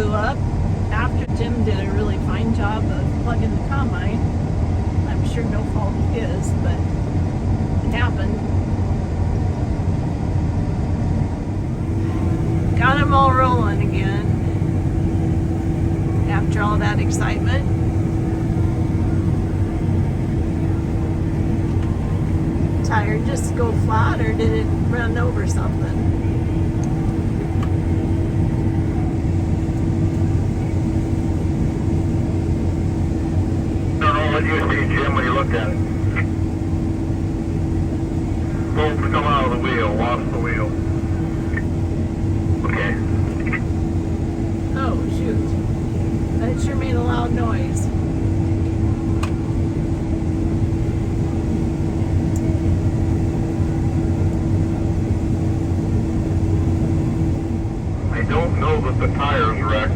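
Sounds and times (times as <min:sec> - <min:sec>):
farm machinery engine running: 0:11.1 - 0:59.9.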